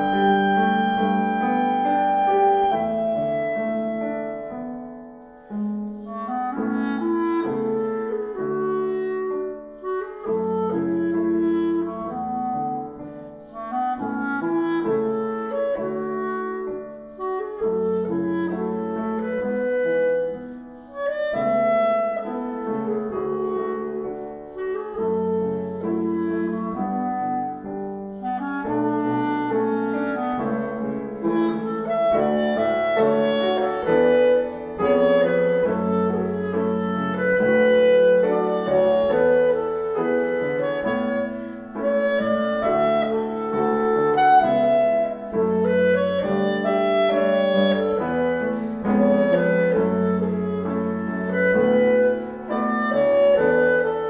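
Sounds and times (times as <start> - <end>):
clarinet melody: 0.0 - 54.0
piano accompaniment: 0.0 - 54.0.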